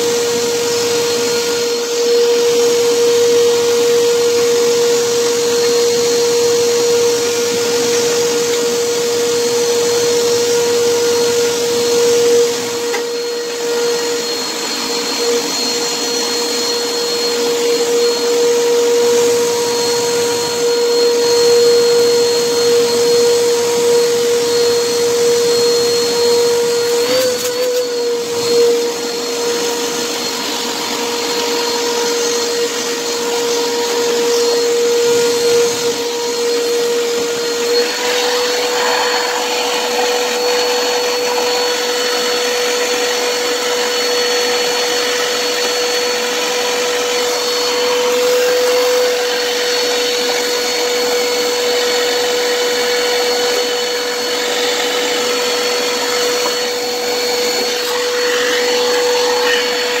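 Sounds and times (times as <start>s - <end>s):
vacuum cleaner running: 0.0s - 60.0s.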